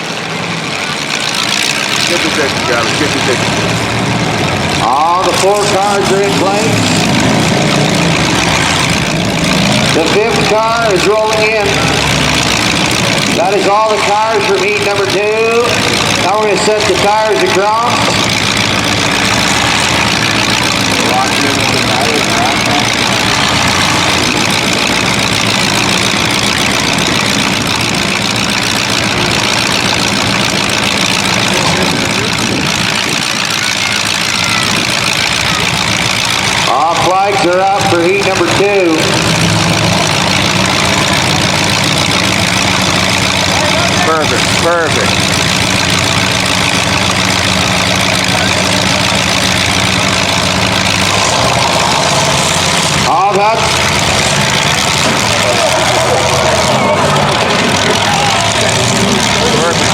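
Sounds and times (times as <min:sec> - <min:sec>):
car engines idling: 0:00.0 - 0:59.9.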